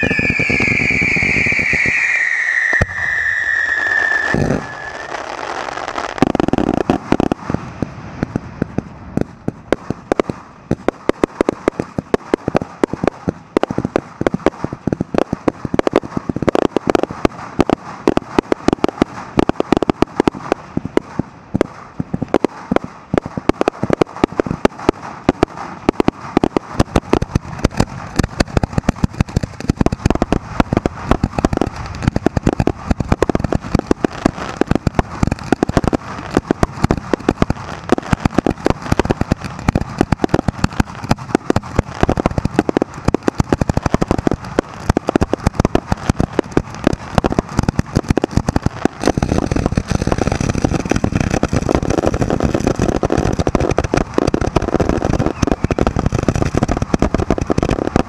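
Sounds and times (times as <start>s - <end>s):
fireworks barrage: 0.0s - 58.0s
shells bursting overhead: 0.0s - 58.0s.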